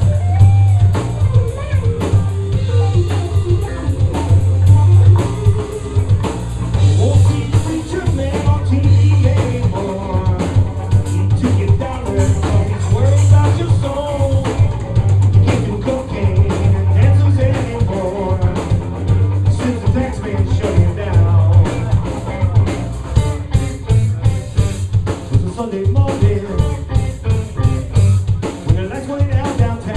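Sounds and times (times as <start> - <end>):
drum kit steady beat: 0.0 - 29.9
live blues band playing: 0.0 - 29.9.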